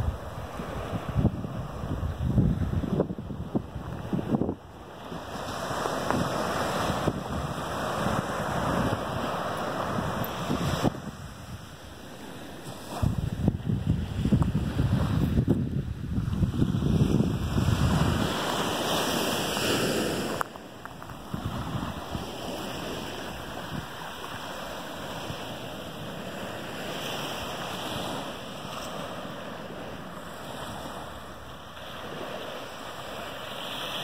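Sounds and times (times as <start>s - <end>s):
ocean surf washing up beach: 0.0s - 34.0s
wind rumble on microphone: 0.0s - 34.0s.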